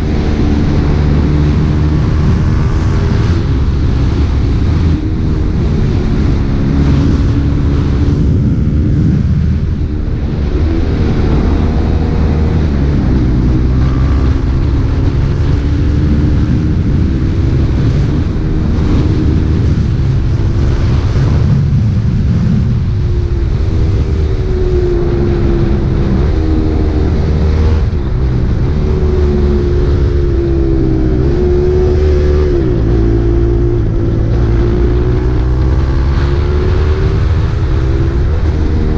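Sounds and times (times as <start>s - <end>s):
motorcycle engine revving: 0.0s - 38.9s
wind noise: 0.0s - 38.9s.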